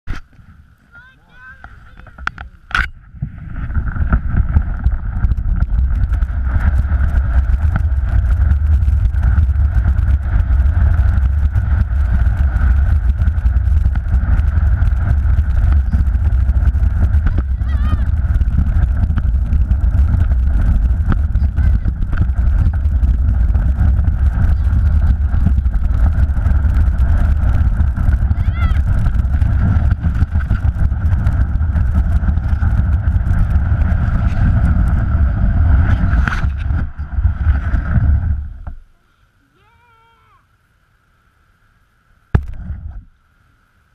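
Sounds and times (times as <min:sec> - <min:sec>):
snow tube rumbling over snow: 0:00.4 - 0:02.4, 0:03.0 - 0:38.9
rushing noise: 0:02.8 - 0:38.7
snow tube knock: 0:03.2 - 0:38.8, 0:42.4 - 0:42.9.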